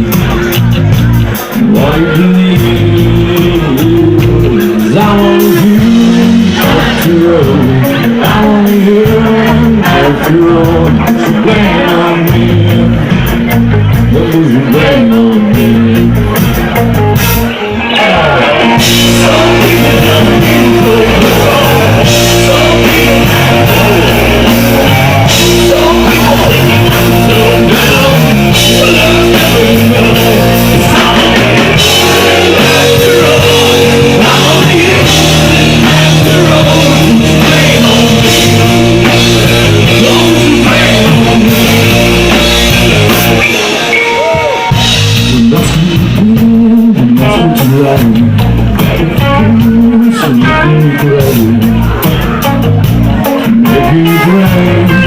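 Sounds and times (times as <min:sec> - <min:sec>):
person singing: 0:00.0 - 0:16.7, 0:17.7 - 0:55.0
drum kit: 0:00.0 - 0:55.0
electric guitar: 0:00.0 - 0:55.0.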